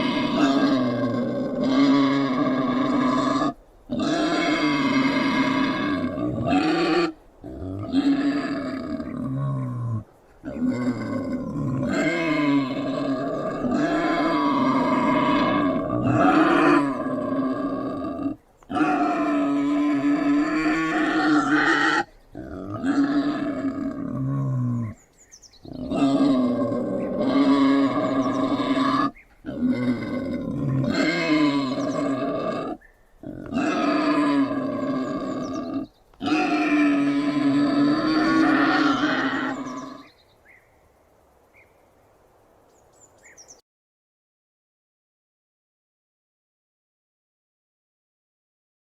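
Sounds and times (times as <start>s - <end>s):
wild boar growling: 0.0s - 25.0s, 25.6s - 40.1s.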